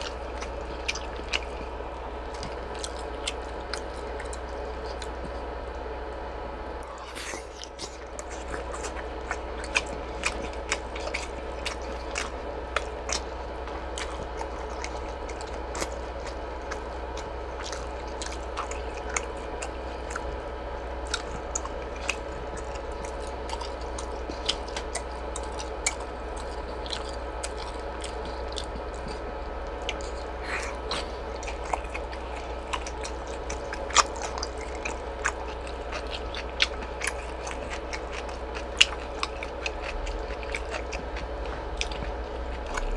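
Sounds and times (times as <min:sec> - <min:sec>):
close chewing: 0:00.0 - 0:42.9
low hum: 0:00.0 - 0:42.9.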